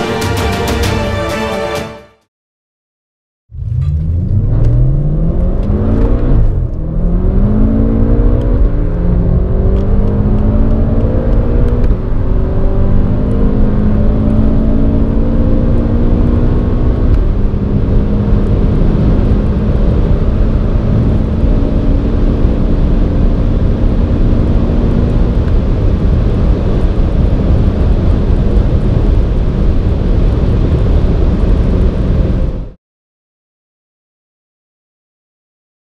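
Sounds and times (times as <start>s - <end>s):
car engines accelerating: 3.5s - 32.6s
road and wind noise: 3.5s - 32.8s.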